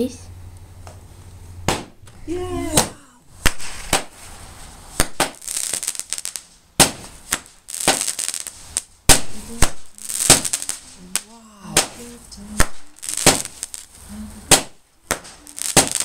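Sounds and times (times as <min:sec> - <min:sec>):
firework bangs: 0:01.6 - 0:16.0
fireworks fizzing and crackling: 0:01.6 - 0:16.0.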